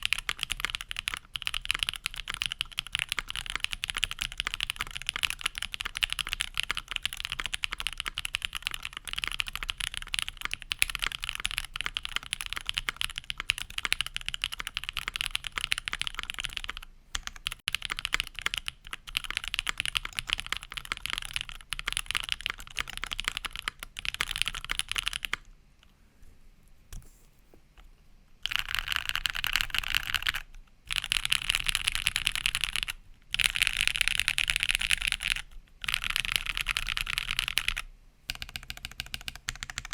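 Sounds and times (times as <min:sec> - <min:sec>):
mechanical keyboard typing: 0:00.0 - 0:25.5, 0:28.4 - 0:39.9.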